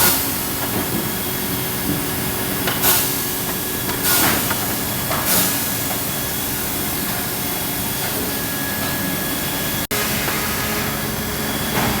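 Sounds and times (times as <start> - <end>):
machine running: 0.0 - 12.0.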